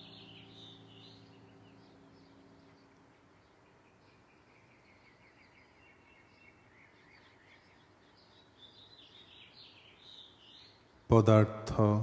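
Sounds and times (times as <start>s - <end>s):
faint bird chirping: 0.0s - 11.4s
low background hiss: 0.0s - 12.0s.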